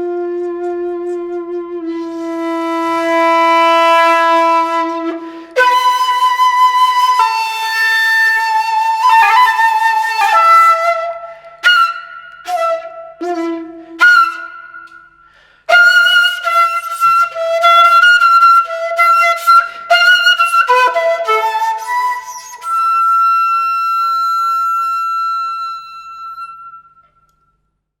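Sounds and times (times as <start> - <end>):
shakuhachi flute playing: 0.0 - 27.6.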